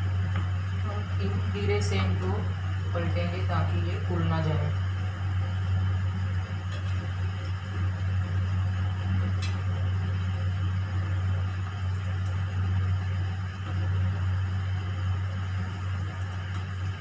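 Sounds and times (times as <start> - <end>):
soft frying sizzle: 0.0 - 17.0
steady low hum: 0.0 - 17.0.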